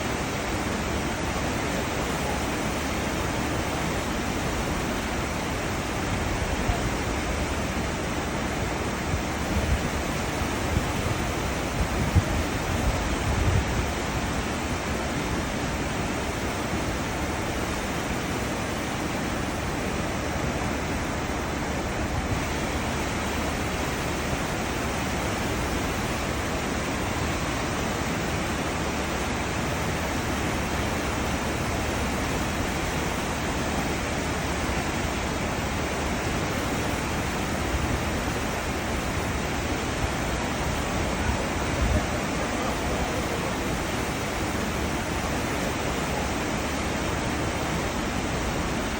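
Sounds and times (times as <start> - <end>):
rush of churned sea water: 0.0 - 48.9.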